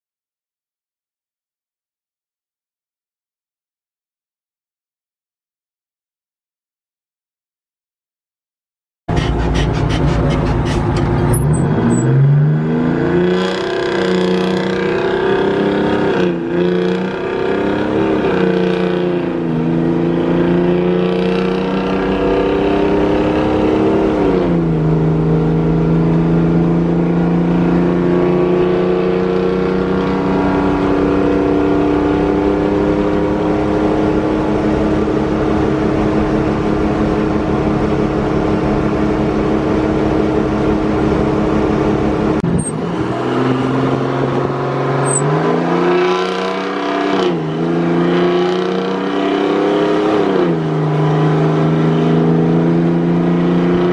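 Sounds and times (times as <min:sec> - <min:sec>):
diesel truck engine accelerating: 0:09.1 - 0:53.9.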